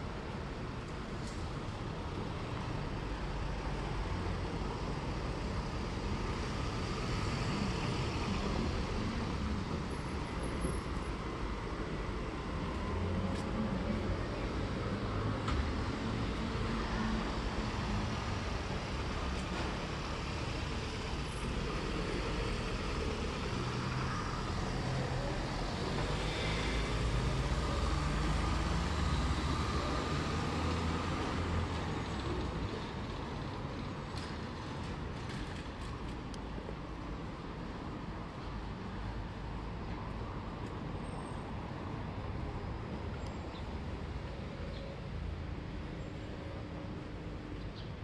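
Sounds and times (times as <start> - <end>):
street noise: 0.0 - 48.0.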